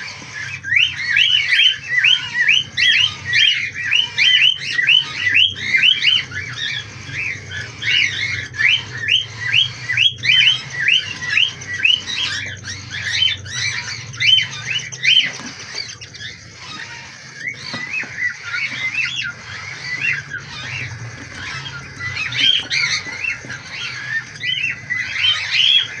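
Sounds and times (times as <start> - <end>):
bird chicks squawking: 0.0 - 26.0
steady low hum: 0.0 - 26.0.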